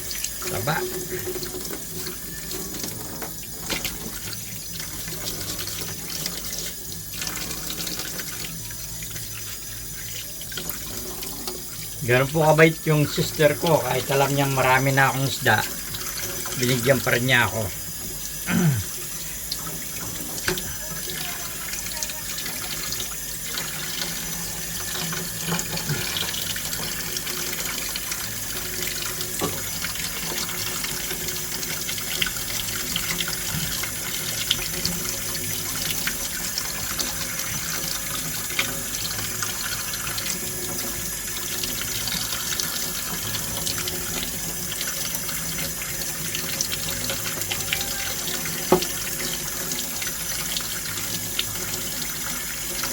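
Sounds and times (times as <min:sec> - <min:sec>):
tap water running into sink: 0:00.0 - 0:52.9.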